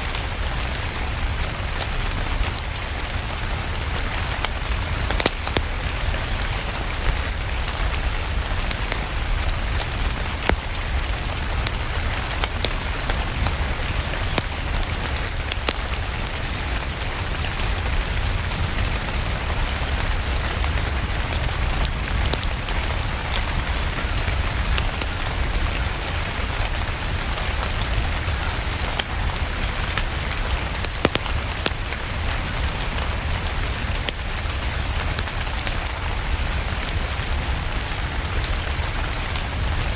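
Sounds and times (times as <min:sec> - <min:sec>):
steady rain hissing: 0:00.0 - 0:39.9
wood fire crackling: 0:00.0 - 0:39.9.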